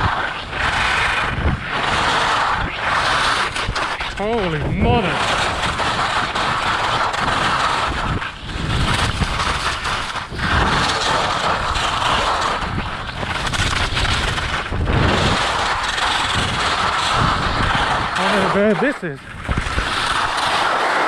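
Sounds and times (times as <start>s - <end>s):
wind on microphone: 0.0s - 20.8s
skis scraping over icy snow: 0.0s - 21.0s.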